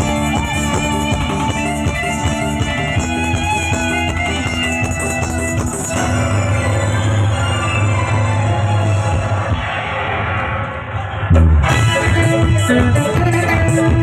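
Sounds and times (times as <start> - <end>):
plucked string melody over a beat: 0.0 - 9.6, 11.3 - 14.0.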